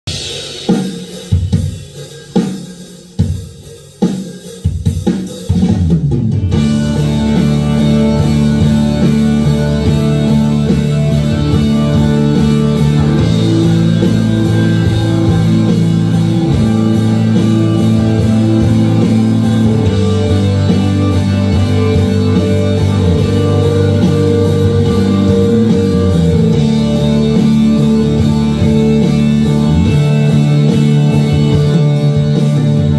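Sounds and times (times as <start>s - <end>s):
drums: 0.0s - 32.9s
electric guitar chords: 6.4s - 32.9s.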